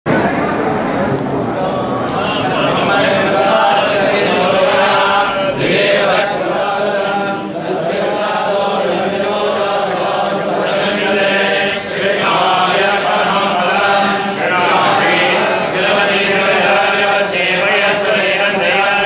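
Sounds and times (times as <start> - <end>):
men chanting in unison: 1.6 - 19.0.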